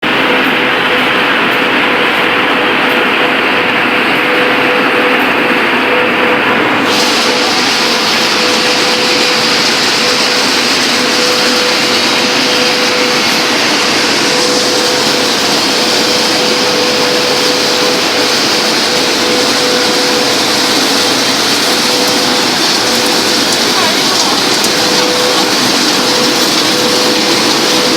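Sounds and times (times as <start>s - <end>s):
machinery hum: 0.0s - 27.9s
machinery roaring: 0.0s - 27.9s.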